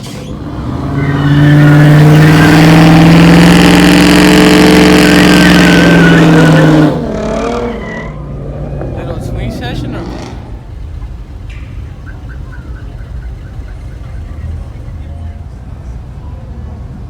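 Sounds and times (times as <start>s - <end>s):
truck engine revving: 0.0s - 15.2s.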